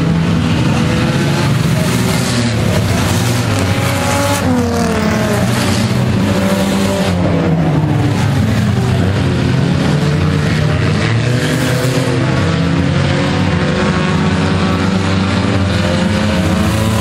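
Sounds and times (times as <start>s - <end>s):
race car engines passing by: 0.0s - 17.0s.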